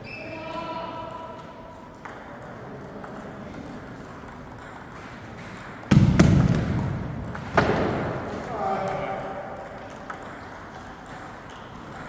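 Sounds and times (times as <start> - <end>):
table tennis rally: 0.0 - 12.0.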